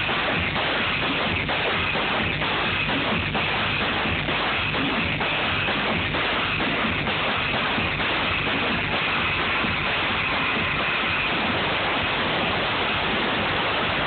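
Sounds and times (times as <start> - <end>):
loud music: 0.0 - 14.0.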